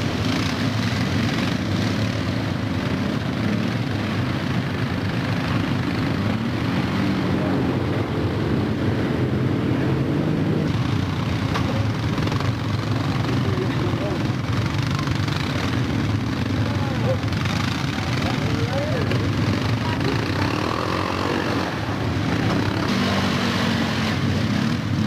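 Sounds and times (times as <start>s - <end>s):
atv engines running: 0.0s - 25.0s.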